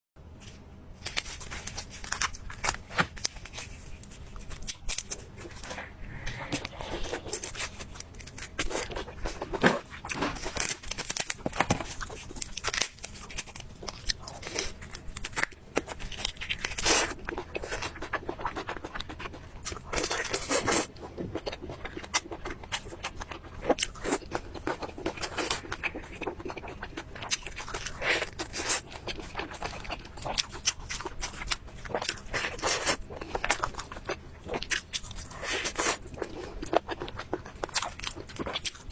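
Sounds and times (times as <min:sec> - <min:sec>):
crunching and chewing food: 0:00.4 - 0:38.9.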